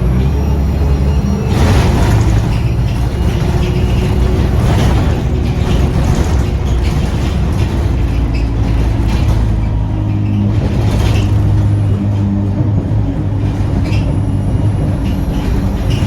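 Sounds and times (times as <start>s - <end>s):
bus engine drone: 0.0s - 16.0s
road noise: 0.0s - 16.0s
body rattles: 0.6s - 16.0s.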